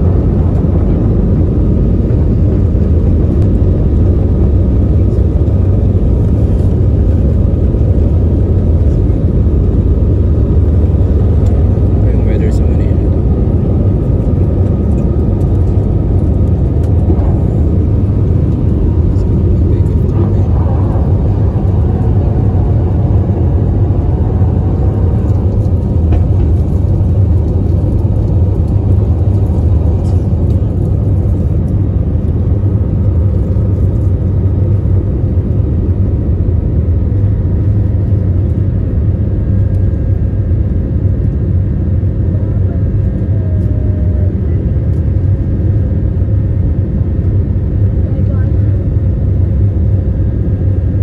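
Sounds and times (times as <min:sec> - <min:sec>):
jet engine and airflow rumble: 0:00.0 - 0:51.0.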